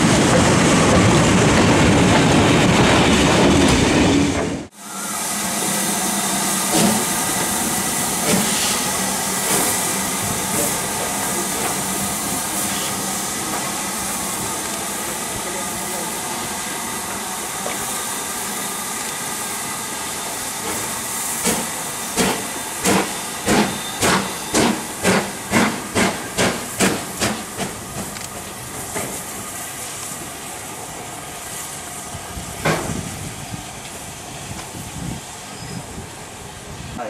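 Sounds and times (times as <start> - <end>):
steam locomotive hissing: 0.0 - 37.0
steam locomotive exhaust beats: 4.7 - 35.2.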